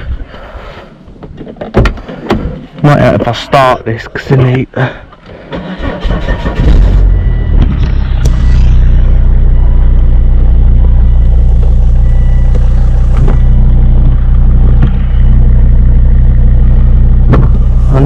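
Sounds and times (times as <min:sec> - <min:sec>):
car engine idling: 0:02.6 - 0:18.0.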